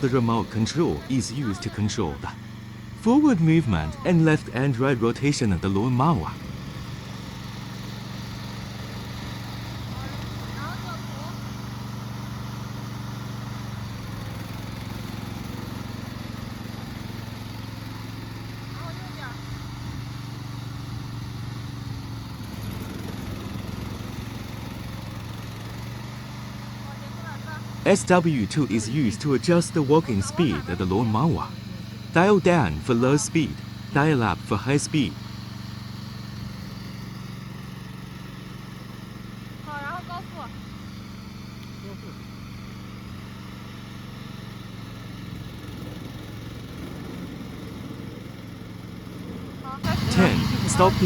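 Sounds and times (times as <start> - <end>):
lawn mower engine running: 0.0 - 51.0.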